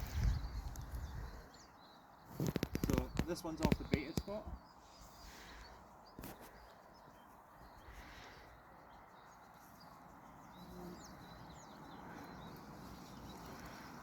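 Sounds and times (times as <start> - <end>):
quiet outdoor background noise: 0.0 - 14.0.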